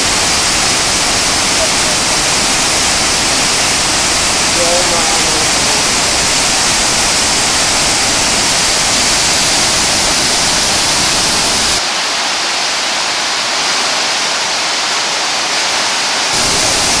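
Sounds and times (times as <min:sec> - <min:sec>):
waterfall crashing over rocks: 0:00.0 - 0:17.0.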